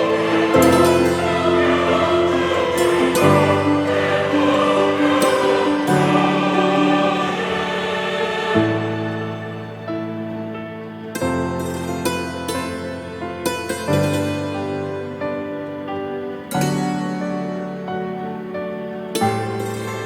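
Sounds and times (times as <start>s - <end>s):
choir-like background music: 0.0s - 20.0s.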